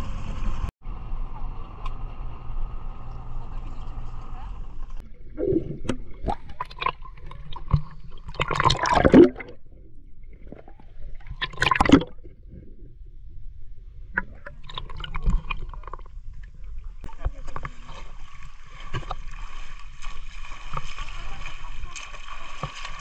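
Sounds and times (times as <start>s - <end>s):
water splashes: 3.0s - 12.9s, 14.0s - 23.0s
water sloshing and gurgling: 3.2s - 23.0s.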